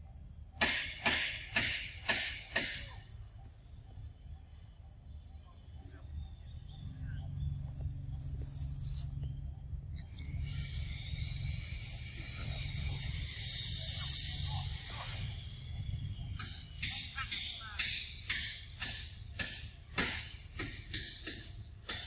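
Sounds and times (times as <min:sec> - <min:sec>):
high hissing drone: 0:00.0 - 0:21.7
insect raspy pulses: 0:00.0 - 0:22.0.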